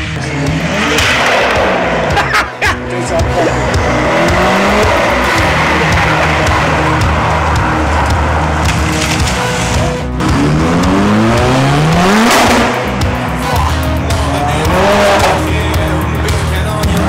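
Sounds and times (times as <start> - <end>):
car engine accelerating hard: 0.0 - 17.0
music: 0.0 - 17.0.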